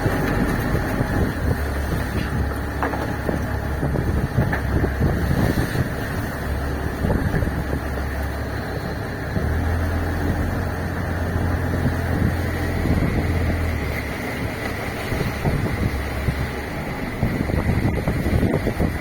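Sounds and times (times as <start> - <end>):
boat engine running: 0.0 - 19.0
wind buffeting microphone: 0.0 - 19.0.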